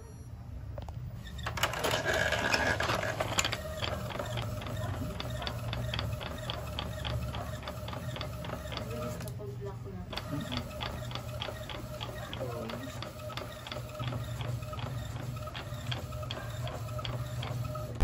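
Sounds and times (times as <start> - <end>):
printer mechanical noise: 0.6 - 18.0
printer motor whine: 0.8 - 9.4, 10.1 - 18.0.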